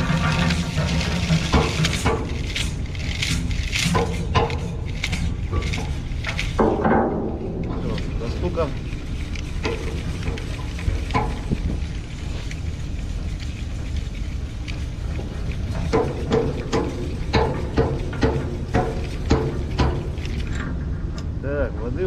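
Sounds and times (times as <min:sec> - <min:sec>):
ship engine rumble: 0:00.0 - 0:22.0
wind on deck: 0:00.0 - 0:22.0.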